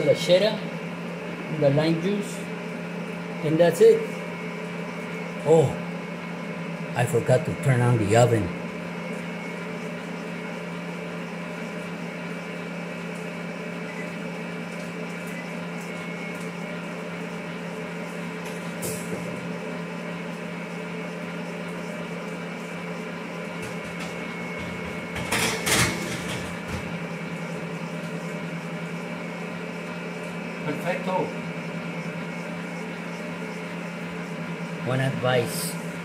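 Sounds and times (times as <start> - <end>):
stand mixer motor whining: 0.0 - 36.0.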